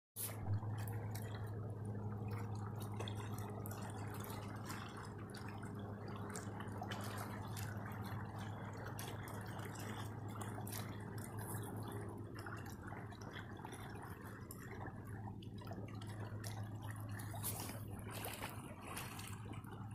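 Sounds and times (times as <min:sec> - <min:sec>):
small ticks and splashes: 0:00.2 - 0:19.9
steady low hum: 0:00.2 - 0:19.9
water lapping and dripping: 0:00.2 - 0:19.9.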